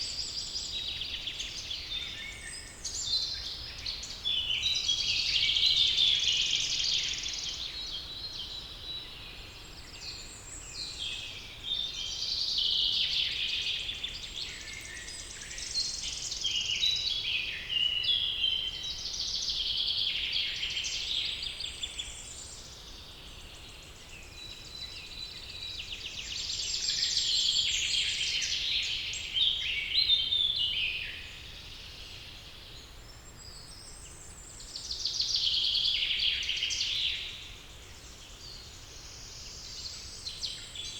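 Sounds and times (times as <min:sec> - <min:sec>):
songbirds singing in chorus: 0:00.0 - 0:40.9.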